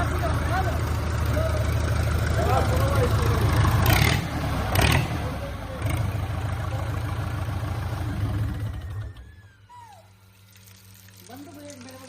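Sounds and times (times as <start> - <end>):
diesel engine idling: 0.0 - 9.7.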